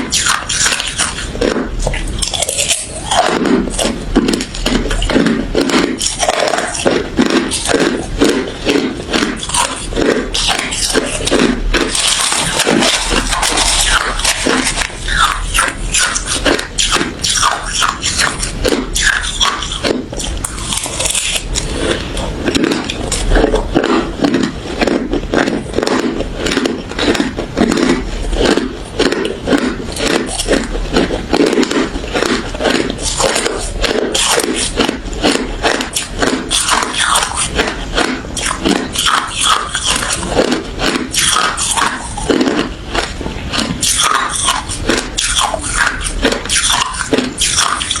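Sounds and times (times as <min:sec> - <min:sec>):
crushed ice being chewed: 0:00.0 - 0:48.0.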